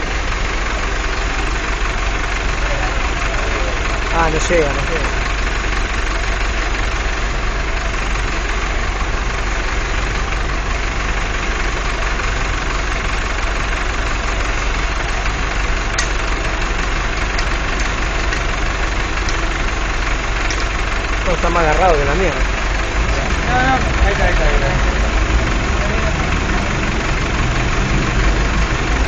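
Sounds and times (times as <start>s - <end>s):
motor engine idling: 0.0s - 29.0s.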